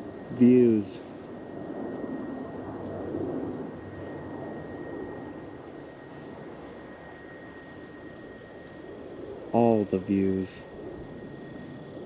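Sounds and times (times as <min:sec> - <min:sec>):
crickets chirping: 0:00.0 - 0:12.0
faint high insect tone: 0:00.0 - 0:12.0.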